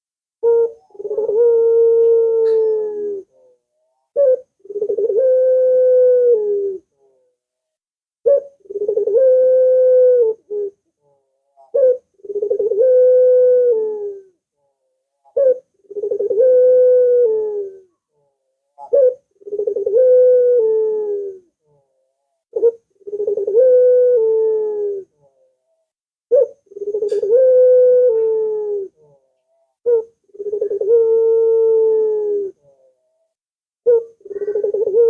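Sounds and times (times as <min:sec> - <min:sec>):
dove cooing: 0:00.4 - 0:07.3, 0:08.2 - 0:14.4, 0:15.2 - 0:18.0, 0:18.8 - 0:21.8, 0:22.5 - 0:25.5, 0:26.3 - 0:33.0, 0:33.8 - 0:35.0.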